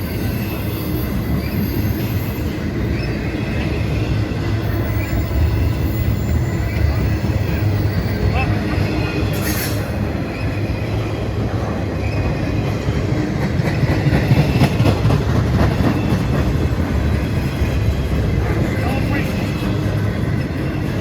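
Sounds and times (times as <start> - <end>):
train cars rumbling: 0.0 - 21.0.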